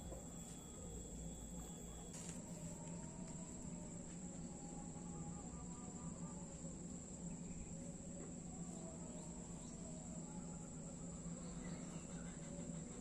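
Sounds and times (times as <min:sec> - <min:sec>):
crickets trilling: 0:00.0 - 0:13.0
faint chirps: 0:00.0 - 0:13.0
low steady hum: 0:00.0 - 0:13.0.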